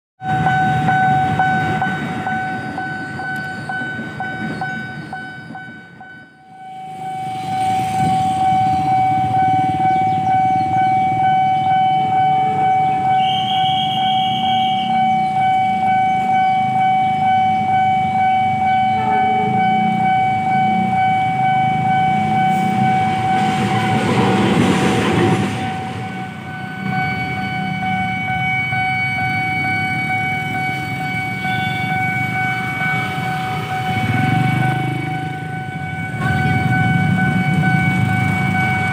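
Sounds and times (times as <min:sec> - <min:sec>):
brief high tone: 0:00.2 - 0:23.9, 0:25.7 - 0:38.9
level crossing alarm: 0:00.2 - 0:38.9
train rumble: 0:00.2 - 0:38.9.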